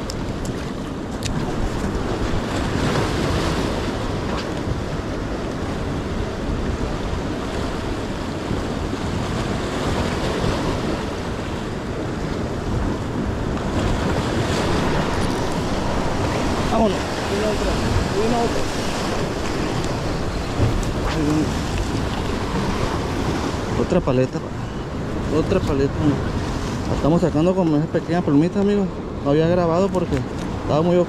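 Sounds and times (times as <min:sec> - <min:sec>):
waves breaking over rocks: 0:00.0 - 0:31.0
wind buffeting microphone: 0:00.0 - 0:31.0.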